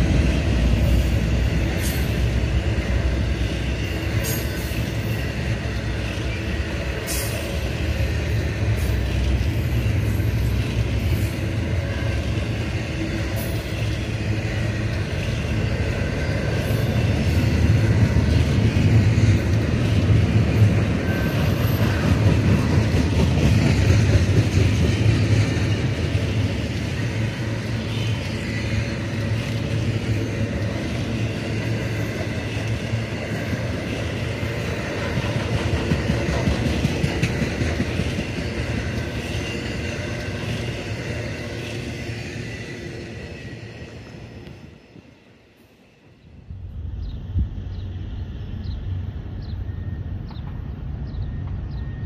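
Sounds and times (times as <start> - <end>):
steel wheels rumbling on rails: 0.0 - 52.0.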